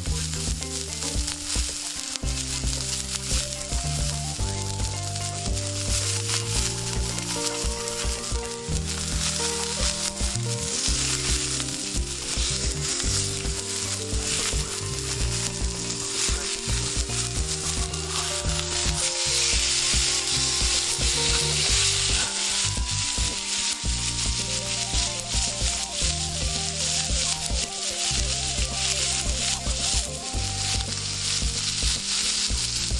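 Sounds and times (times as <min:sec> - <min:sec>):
quiet background music: 0:00.0 - 0:32.9
steak sizzling in a skillet: 0:00.0 - 0:32.9.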